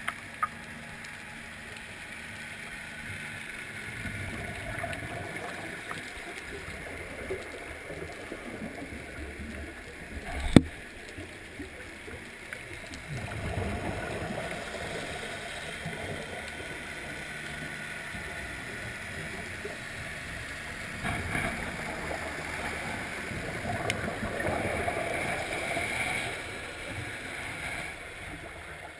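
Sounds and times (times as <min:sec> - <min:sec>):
underwater hiss and rumble: 0:00.0 - 0:28.9
gurgling bubbles: 0:03.9 - 0:28.9.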